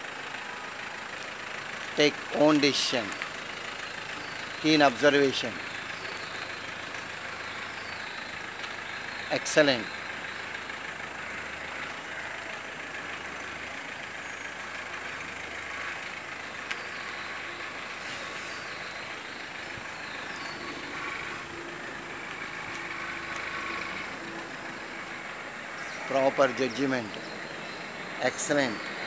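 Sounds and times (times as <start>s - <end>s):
car engine and tyres: 0.0s - 29.0s.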